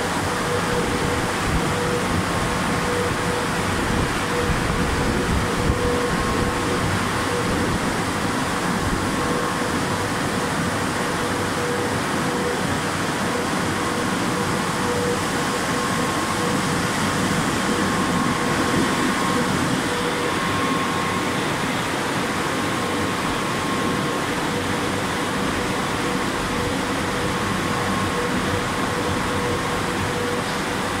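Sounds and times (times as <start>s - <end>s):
car wash blowers rushing air: 0.0s - 31.0s
steady hum: 0.0s - 31.0s.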